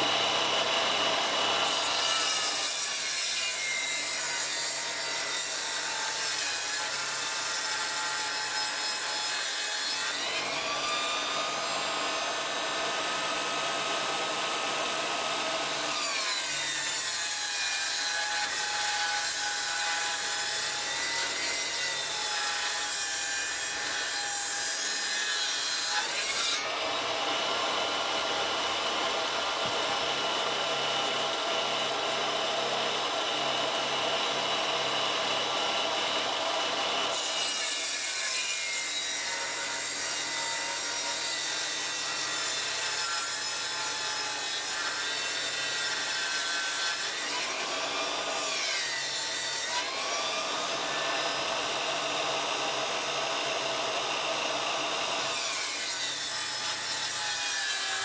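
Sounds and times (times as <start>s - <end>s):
table saw motor whining: 0.0s - 3.5s, 6.9s - 58.0s.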